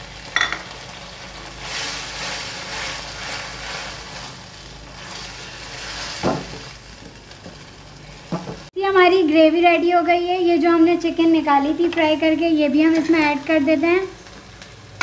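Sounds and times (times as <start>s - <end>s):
gravy sizzling and bubbling: 0.0s - 8.8s, 10.7s - 15.0s.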